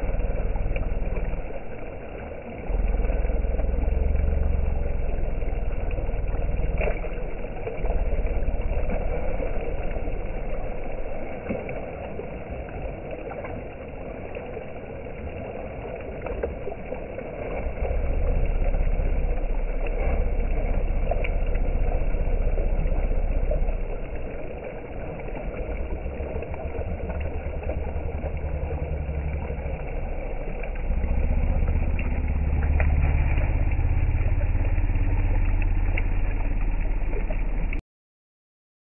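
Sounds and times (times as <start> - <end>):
river rushing over stones: 0.0 - 37.8.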